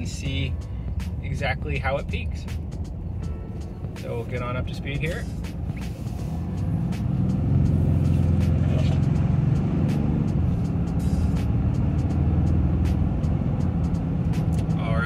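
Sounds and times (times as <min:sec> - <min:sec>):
diesel engine drone: 0:00.0 - 0:15.0
tyre and road noise: 0:00.0 - 0:15.0.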